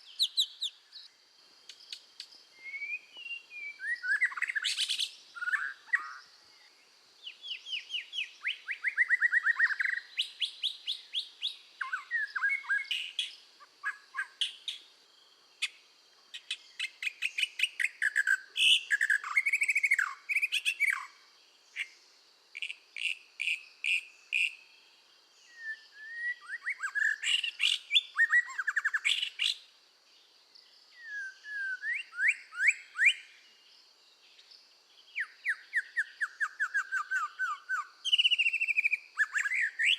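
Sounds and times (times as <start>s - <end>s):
bird singing whistled notes: 0.0s - 14.9s, 16.4s - 22.0s, 22.6s - 29.7s, 30.6s - 39.9s.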